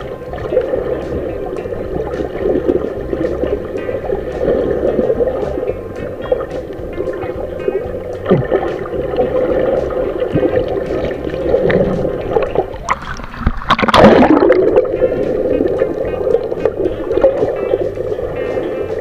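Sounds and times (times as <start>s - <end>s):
water gurgling and sloshing: 0.0s - 19.0s
water rushing burst: 0.0s - 19.0s.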